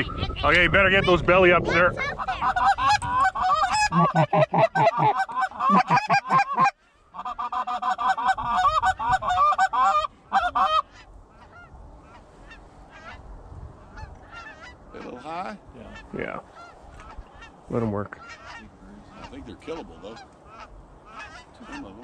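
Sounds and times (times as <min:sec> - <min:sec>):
geese honking: 0:00.0 - 0:13.2, 0:13.8 - 0:22.0.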